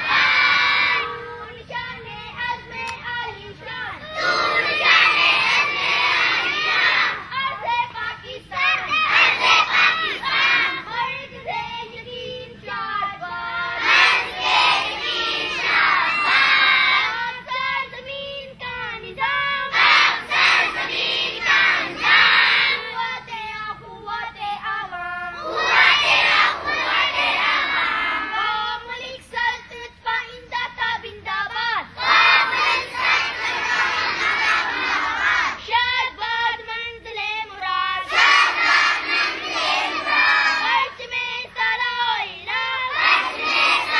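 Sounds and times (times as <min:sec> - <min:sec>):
girls singing in unison: 0:00.0 - 0:43.9.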